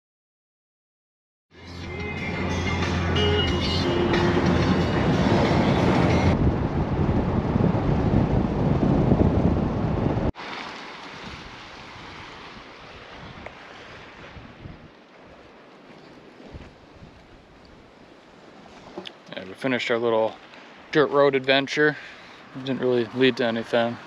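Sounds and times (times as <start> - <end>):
wind: 1.5 - 24.0
surf on rocky shore: 1.7 - 24.0
wind and road noise: 2.1 - 19.6, 20.3 - 24.0.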